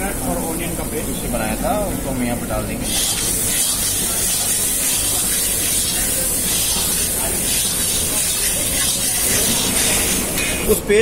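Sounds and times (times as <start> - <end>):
onion paste sizzling in oil: 0.1 - 11.0.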